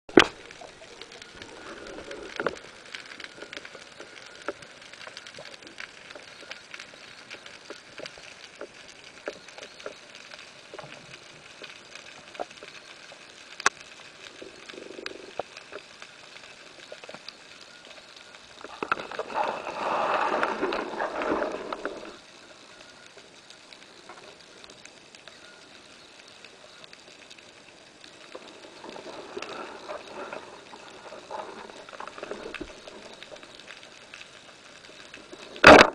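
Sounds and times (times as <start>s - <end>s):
sharp underwater clicks and crackles: 0.1s - 35.9s
underwater hiss: 0.2s - 9.7s, 14.0s - 35.9s.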